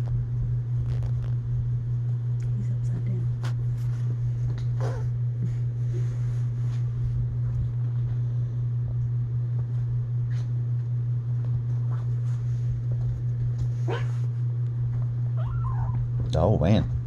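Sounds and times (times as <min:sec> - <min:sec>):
low hum with rumble: 0:00.0 - 0:17.0.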